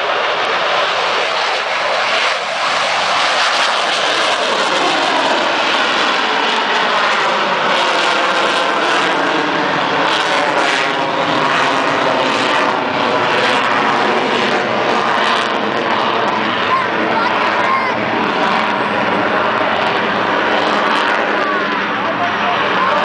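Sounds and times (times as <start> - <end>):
jet engines roaring overhead: 0.0 - 23.0.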